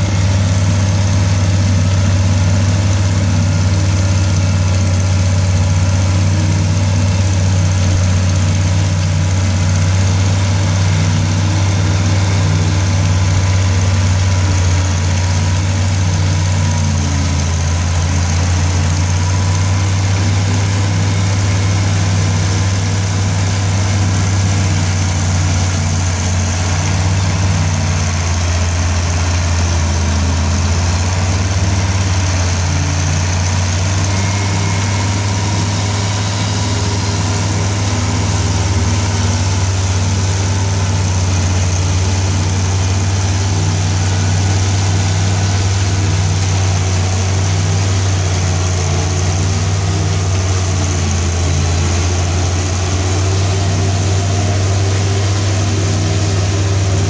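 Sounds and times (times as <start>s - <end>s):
forage harvester chopping corn: 0.0s - 57.0s
tractor diesel engine under load: 0.0s - 57.0s.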